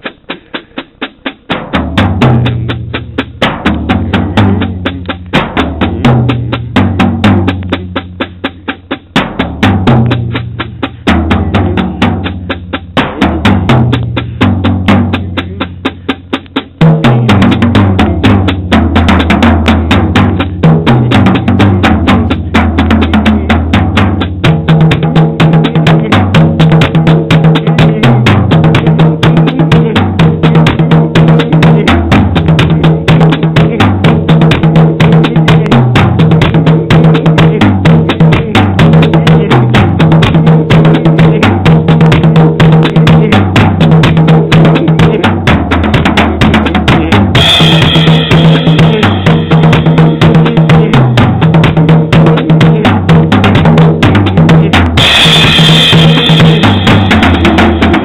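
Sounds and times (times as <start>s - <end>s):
drum kit groove: 0.0s - 58.0s.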